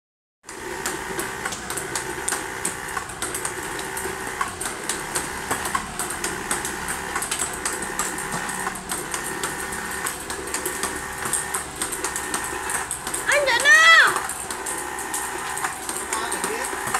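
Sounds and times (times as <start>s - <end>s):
motors whirring: 0.4s - 16.9s
ping-pong balls clicking and bouncing: 0.4s - 16.9s.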